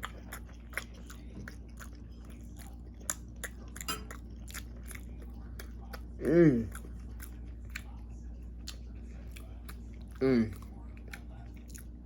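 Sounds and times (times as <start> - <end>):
low steady hum: 0.0 - 12.0
person chewing food: 0.0 - 12.0.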